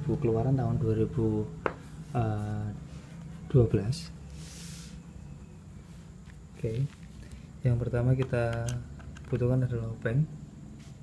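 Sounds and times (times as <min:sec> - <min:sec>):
low steady background hum: 0:00.0 - 0:11.0.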